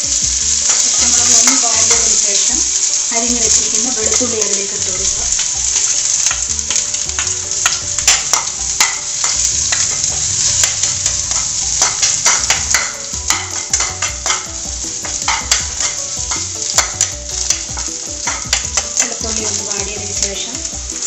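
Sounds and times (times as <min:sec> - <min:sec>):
garlic sizzling in oil: 0:00.0 - 0:21.0
spatula scraping a pan: 0:00.0 - 0:21.0.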